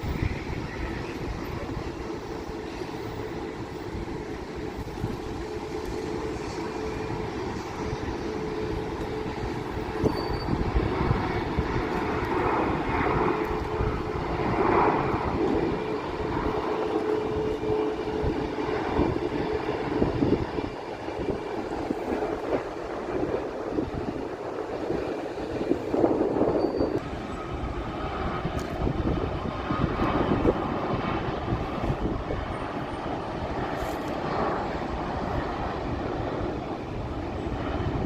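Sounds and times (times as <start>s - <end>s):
vehicle drone: 0.0s - 38.0s
wind rumble on microphone: 0.0s - 38.0s.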